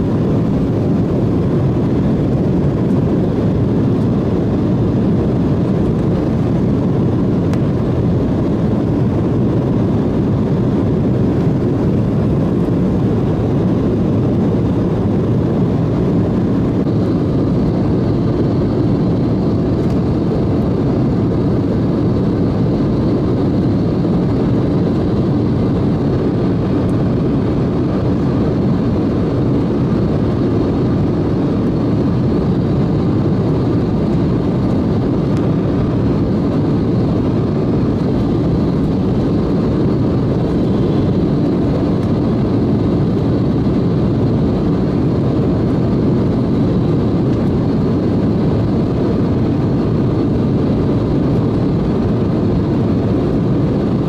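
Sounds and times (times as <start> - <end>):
jet cabin engine noise: 0.0 - 54.0.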